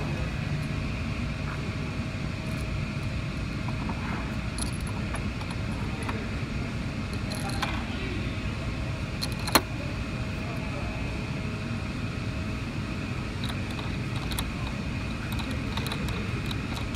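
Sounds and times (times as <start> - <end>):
low background hum: 0.0 - 16.9.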